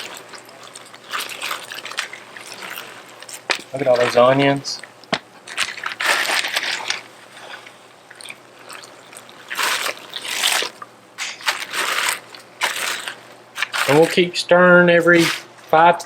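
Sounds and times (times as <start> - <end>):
stirring water and shells in a pot: 0.0 - 14.3.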